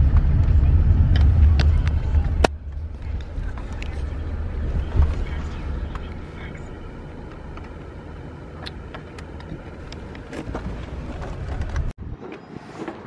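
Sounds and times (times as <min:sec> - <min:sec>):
road and engine rumble in car: 0:00.0 - 0:12.3.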